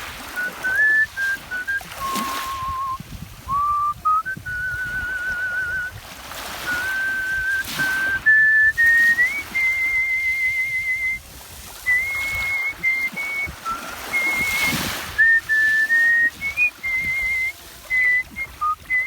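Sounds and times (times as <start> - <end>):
person whistling a melody: 0.3 - 6.0, 6.6 - 11.2, 11.8 - 19.0.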